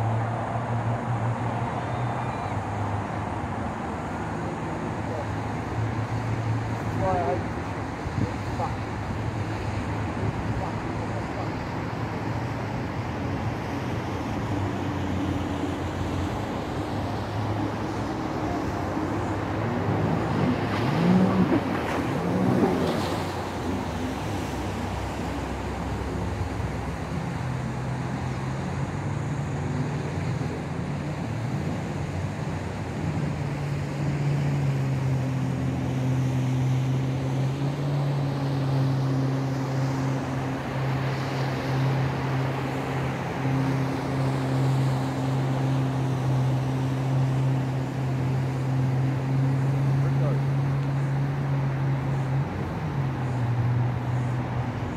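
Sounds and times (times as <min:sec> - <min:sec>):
engine droning: 0:00.0 - 0:54.9.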